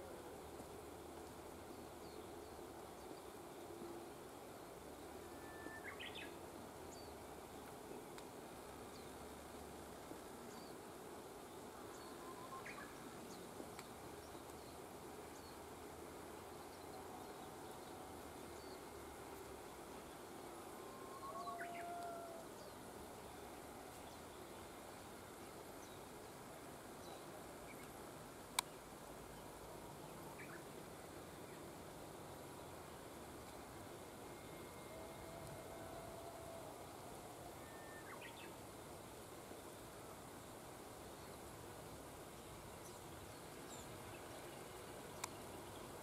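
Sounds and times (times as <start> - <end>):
faint background hiss: 0.0 - 46.0.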